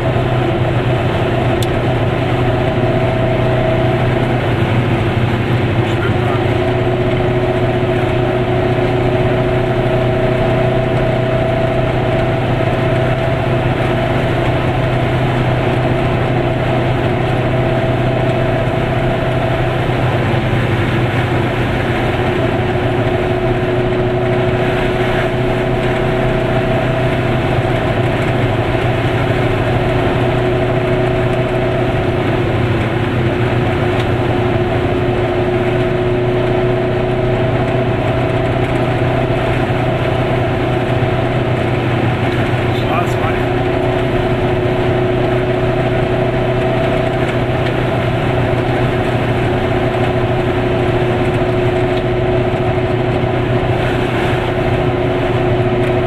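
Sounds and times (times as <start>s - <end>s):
road noise: 0.0s - 56.0s
two-stroke car engine running: 0.0s - 56.0s.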